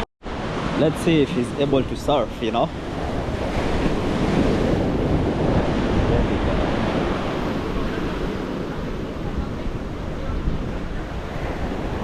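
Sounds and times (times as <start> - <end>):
surf breaking on beach: 0.3 - 12.0
wind buffeting microphone: 0.3 - 12.0.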